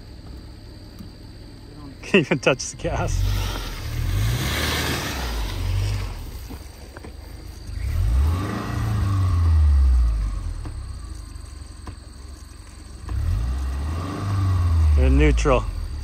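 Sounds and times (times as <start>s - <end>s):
car engine revving under load: 2.8s - 16.0s.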